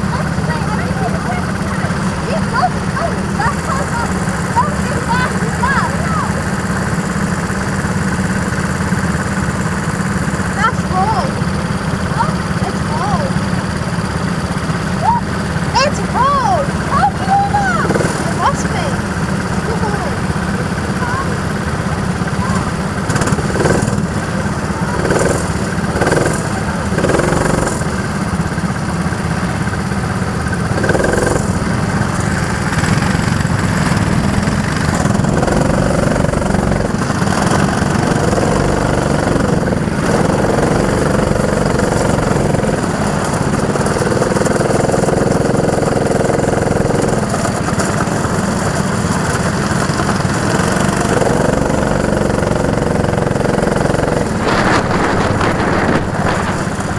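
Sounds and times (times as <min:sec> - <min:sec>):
go-kart engines droning: 0:00.0 - 0:56.9.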